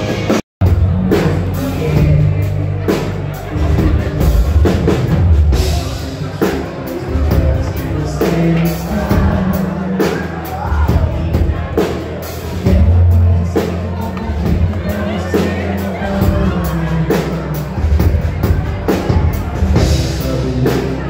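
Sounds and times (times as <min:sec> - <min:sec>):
bass guitar: 0:00.0 - 0:21.0
drum kit: 0:00.0 - 0:21.0
man singing: 0:00.0 - 0:21.0.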